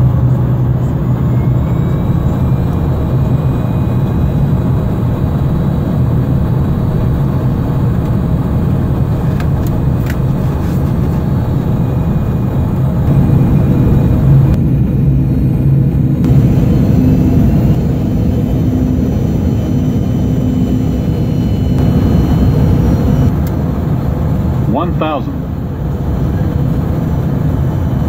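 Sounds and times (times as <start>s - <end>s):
rushing airflow: 0.0s - 27.7s
jet engine drone in cabin: 0.0s - 28.0s
low steady hum: 0.0s - 28.0s.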